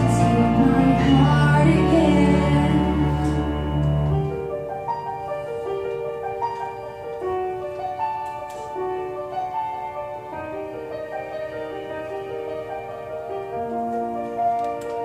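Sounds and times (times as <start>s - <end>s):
slow piano notes: 0.0s - 15.0s.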